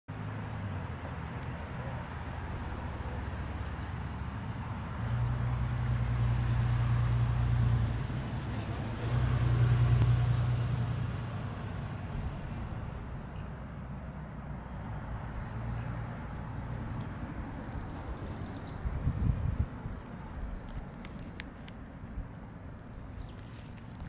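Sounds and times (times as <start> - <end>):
vehicle engine hum: 0.1 - 24.0.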